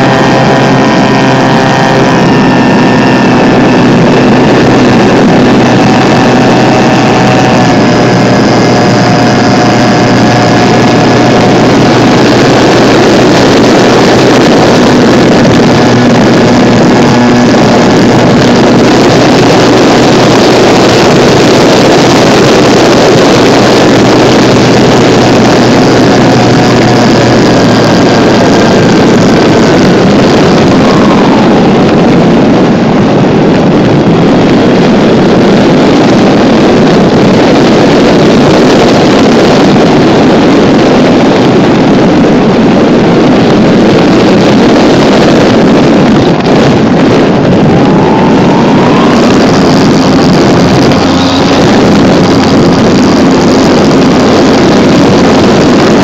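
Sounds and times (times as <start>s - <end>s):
airflow rush and propeller noise: 0.0s - 56.0s
electric motor whine: 0.0s - 56.0s.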